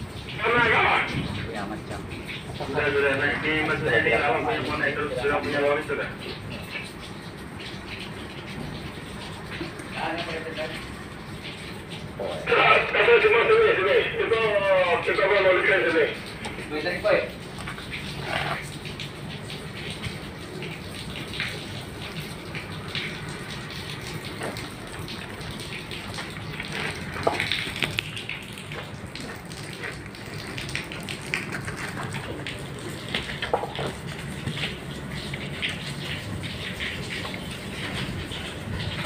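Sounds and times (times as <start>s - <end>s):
water falling and splashing: 0.0s - 39.0s.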